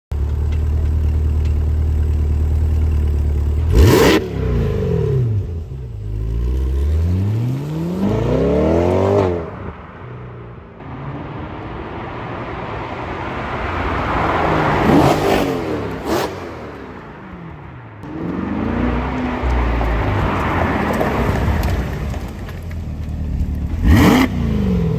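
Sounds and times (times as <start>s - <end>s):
car engine idling and revving: 0.1s - 24.9s.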